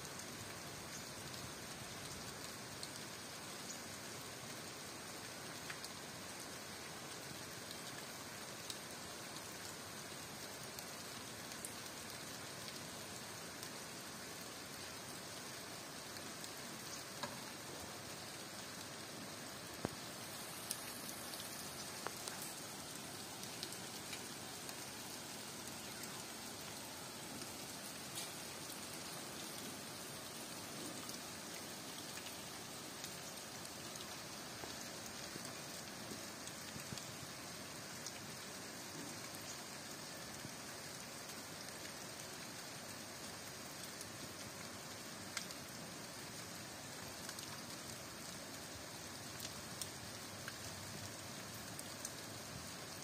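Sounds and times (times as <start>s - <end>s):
light rain on foliage: 0.0s - 53.0s.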